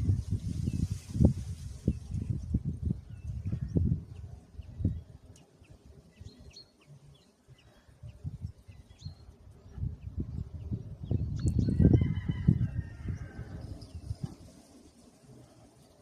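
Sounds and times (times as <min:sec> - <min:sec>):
gusty wind buffeting microphone: 0:00.0 - 0:06.5, 0:07.5 - 0:16.0.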